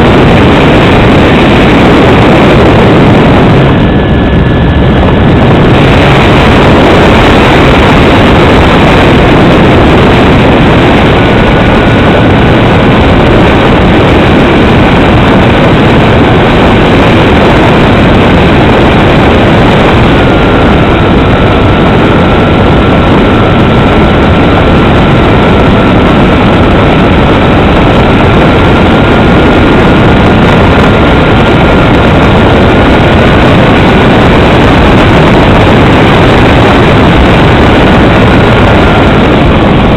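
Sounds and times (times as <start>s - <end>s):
aircraft engine and propeller noise: 0.0s - 39.9s.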